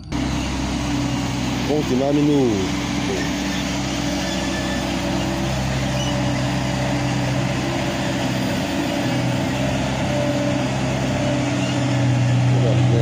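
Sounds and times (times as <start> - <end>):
road roller engine running: 0.0 - 13.0.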